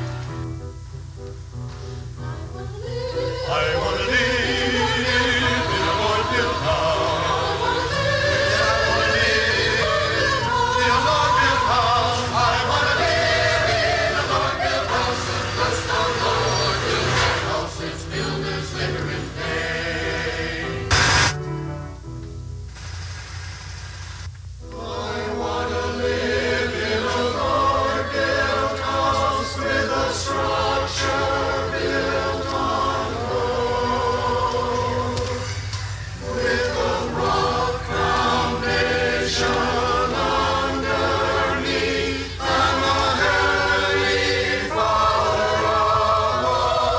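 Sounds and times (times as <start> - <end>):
steady musical accompaniment: 0.0 - 23.5, 24.4 - 46.9
choir singing in parts: 2.5 - 21.4, 24.7 - 46.9.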